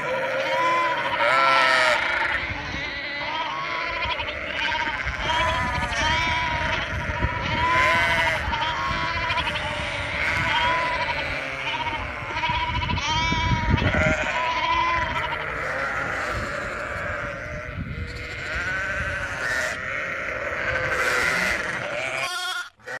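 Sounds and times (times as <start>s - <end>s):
sheep and lambs bleating: 0.0s - 23.0s.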